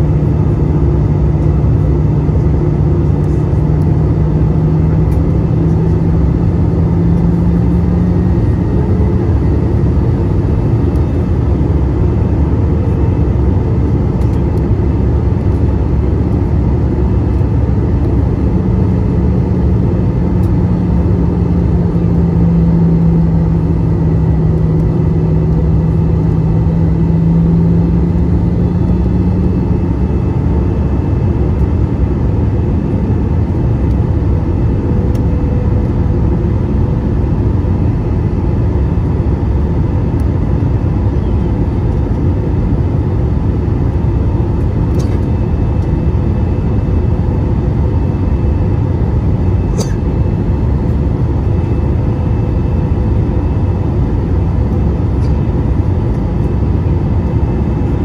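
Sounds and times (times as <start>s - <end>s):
airflow and jet engine noise: 0.0s - 58.0s
low hum: 0.0s - 58.0s.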